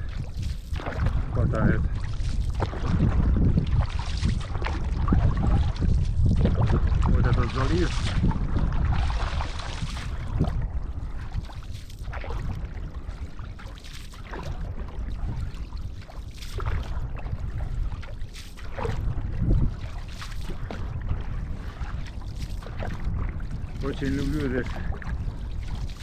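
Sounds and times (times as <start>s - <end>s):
canoe paddle splashing in water: 0.0s - 26.0s
steady low rumble: 0.0s - 26.0s.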